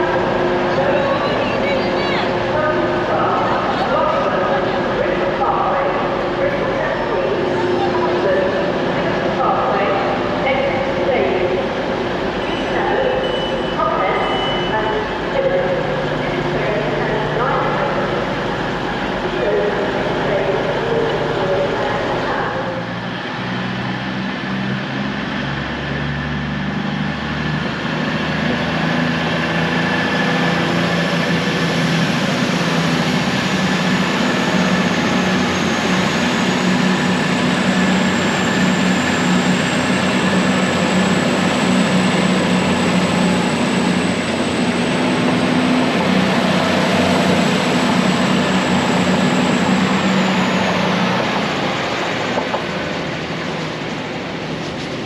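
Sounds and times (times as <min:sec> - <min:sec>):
passenger train drone: 0:00.0 - 0:55.0.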